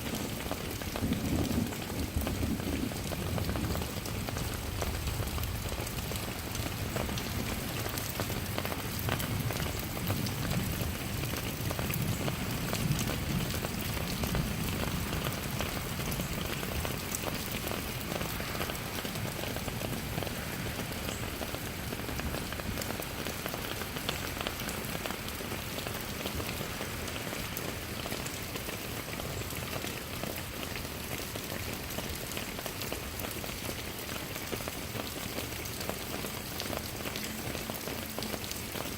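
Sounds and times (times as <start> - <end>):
rain pattering on surfaces: 0.0 - 38.9
raindrops ticking: 0.1 - 38.9.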